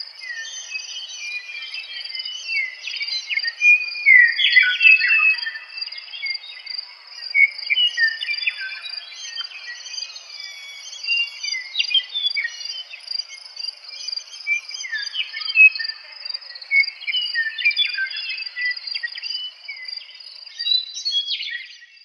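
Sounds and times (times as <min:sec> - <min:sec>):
meadowlarks singing: 0:00.0 - 0:22.0.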